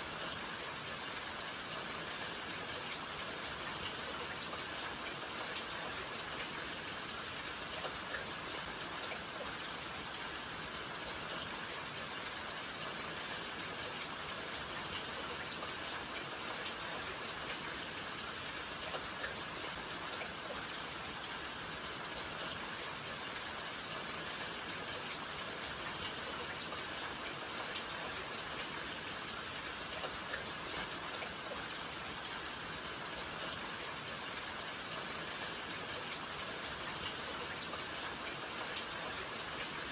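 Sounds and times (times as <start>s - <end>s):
raindrops pattering on a surface: 0.0s - 39.9s
steady rain: 0.0s - 39.9s.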